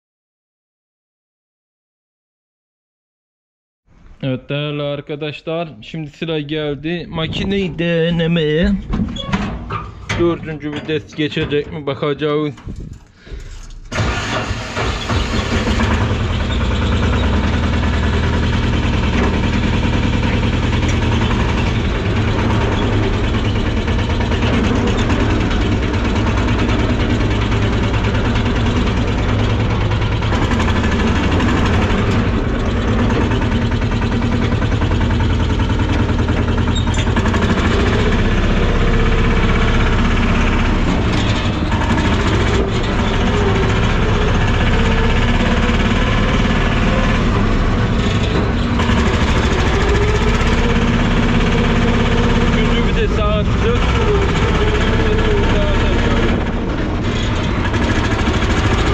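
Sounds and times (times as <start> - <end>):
farm vehicle engine running: 6.5 - 11.8, 12.5 - 58.9.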